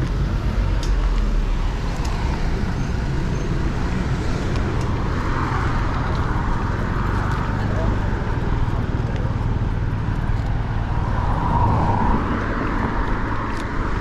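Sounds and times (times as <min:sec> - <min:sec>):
city traffic: 0:00.0 - 0:14.0
wind rumble on microphone: 0:00.0 - 0:14.0.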